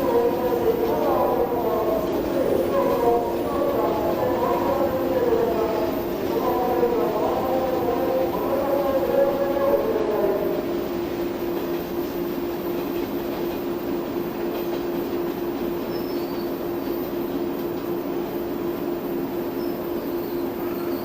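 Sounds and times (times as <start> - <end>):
train running: 0.0 - 21.0.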